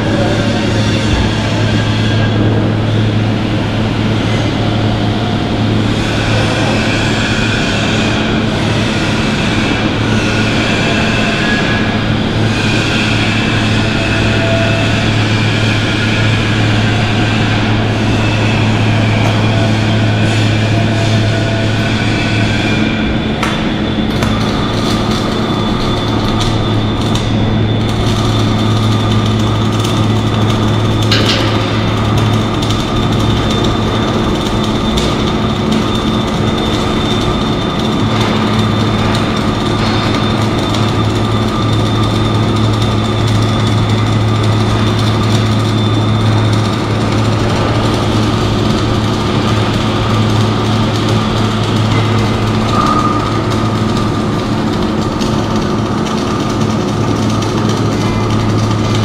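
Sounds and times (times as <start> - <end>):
arc welding crackle and hum: 0.0 - 59.0.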